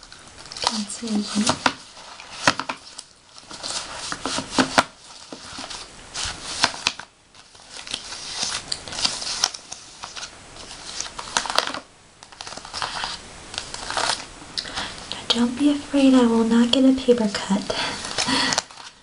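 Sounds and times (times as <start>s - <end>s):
paper rustling and crinkling: 0.0s - 15.1s, 17.2s - 19.0s.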